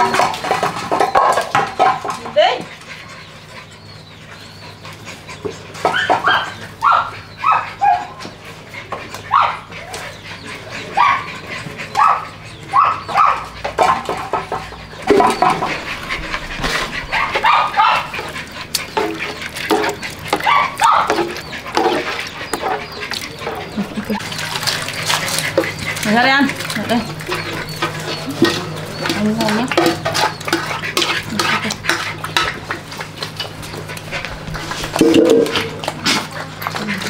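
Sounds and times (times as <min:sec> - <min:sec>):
puppies yipping and whining: 0:00.0 - 0:37.0.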